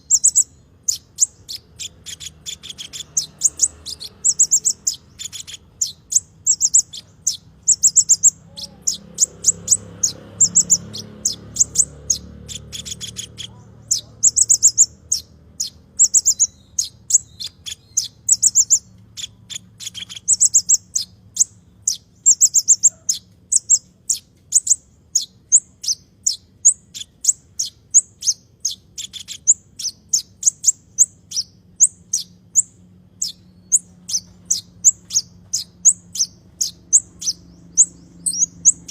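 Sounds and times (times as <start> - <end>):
songbird high sharp chirps: 0.0 - 38.9.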